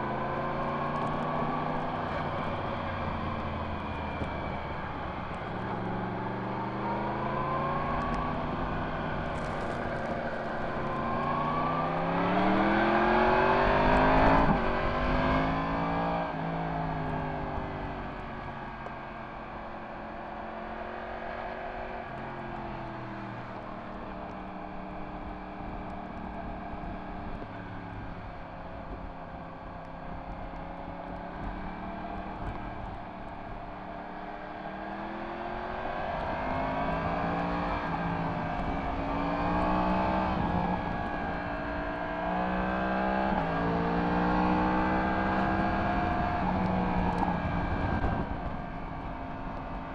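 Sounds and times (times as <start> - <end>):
motorcycle engine revving: 0.0 - 16.0, 22.2 - 49.9
wind and road noise: 0.0 - 49.9.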